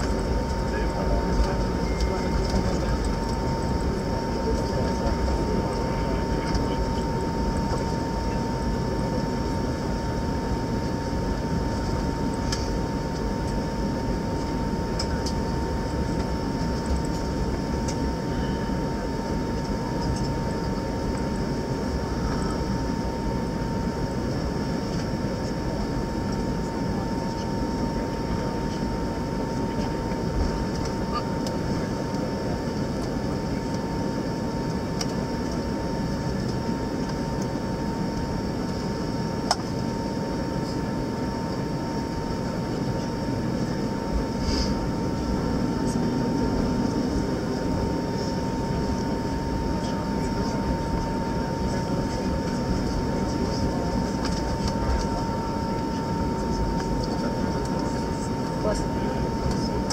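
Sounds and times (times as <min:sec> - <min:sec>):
aircraft cabin rumble: 0:00.0 - 0:59.9
thin steady whine: 0:00.0 - 0:59.9.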